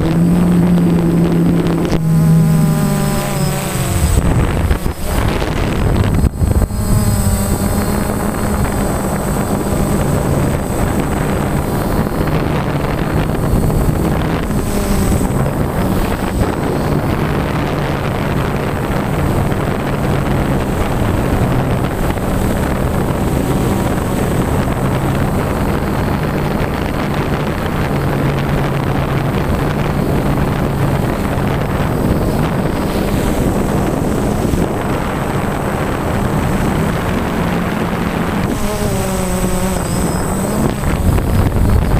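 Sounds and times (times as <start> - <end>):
electric motors and propellers droning: 0.0 - 41.9
thin high whine: 0.0 - 41.9
wind rushing over microphone: 0.0 - 41.9.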